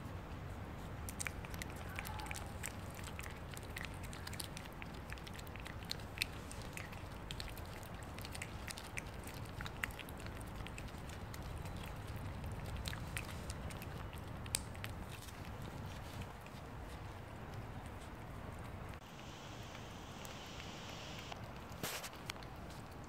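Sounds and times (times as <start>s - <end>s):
low steady rumble: 0.0s - 21.7s
cat licking clicks and smacks: 0.8s - 19.0s, 21.3s - 23.0s.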